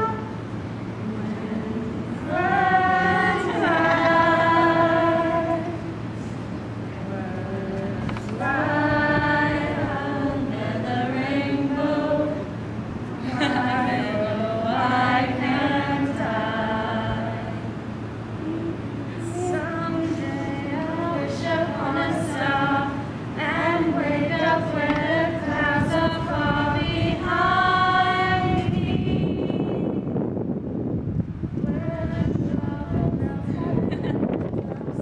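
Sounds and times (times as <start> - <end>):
group singing unaccompanied: 0.0 - 0.3, 1.0 - 6.3, 6.9 - 30.0, 31.6 - 34.0.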